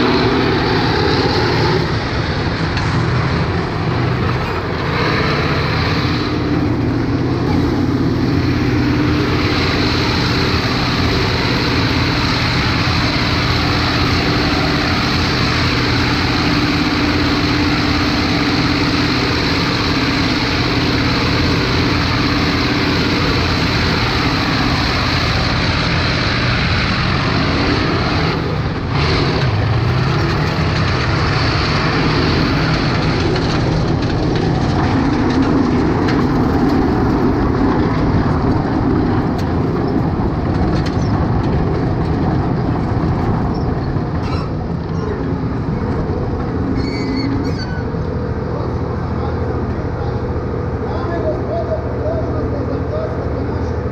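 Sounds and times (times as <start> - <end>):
tank diesel engine running: 0.0 - 53.9.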